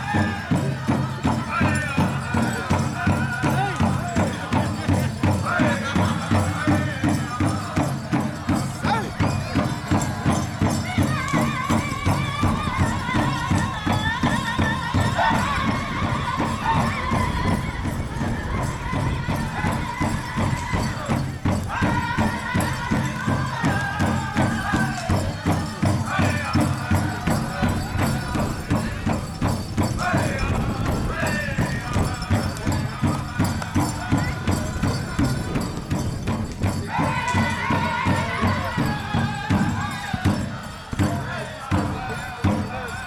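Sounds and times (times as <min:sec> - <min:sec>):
big drum steady beat: 0:00.0 - 0:43.0
dancers' bells jingling: 0:00.0 - 0:43.0
group singing in high voices: 0:00.0 - 0:43.0.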